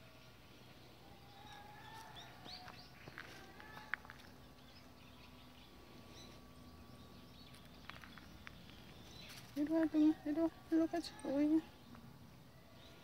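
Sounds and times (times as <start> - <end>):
faint bird chirps and calls: 0.0 - 13.0.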